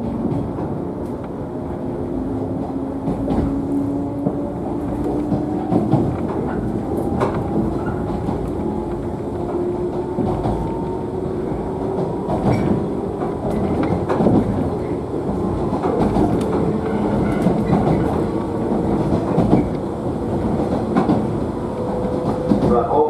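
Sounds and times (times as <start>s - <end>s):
electric train running: 0.0s - 23.0s
wheels clicking over rail joints: 2.6s - 23.0s.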